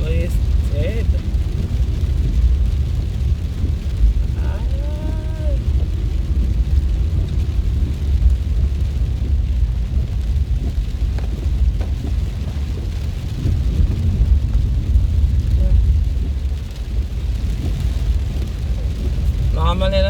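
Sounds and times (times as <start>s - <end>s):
car driving on wet road: 0.0s - 20.0s
heavy rain: 0.0s - 20.0s.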